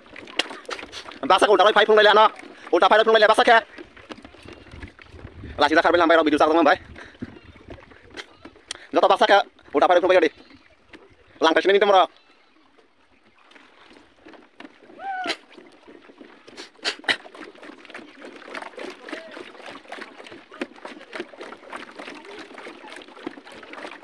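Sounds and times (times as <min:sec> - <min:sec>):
water sloshing around pontoon: 0:00.0 - 0:24.0.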